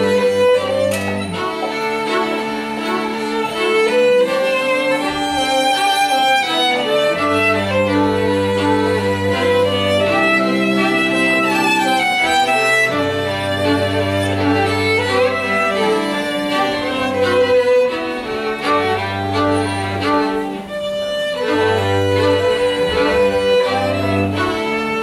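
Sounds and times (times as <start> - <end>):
cello long low notes: 0.0 - 25.0
string ensemble with harp: 0.0 - 25.0
violins playing tune: 0.0 - 25.0.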